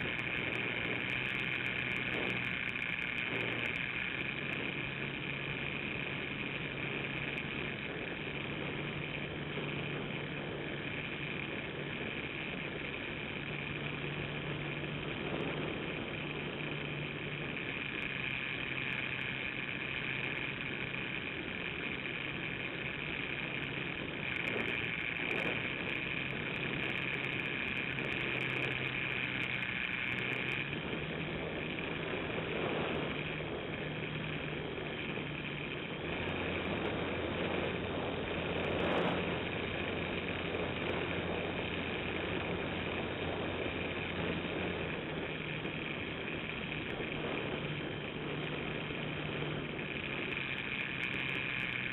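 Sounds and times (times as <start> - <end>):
model airplane motor droning: 0.0 - 51.9.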